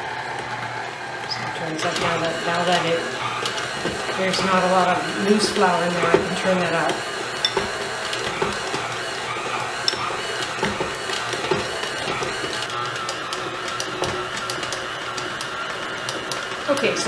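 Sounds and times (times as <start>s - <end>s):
stand mixer motor whirr: 0.0s - 17.0s.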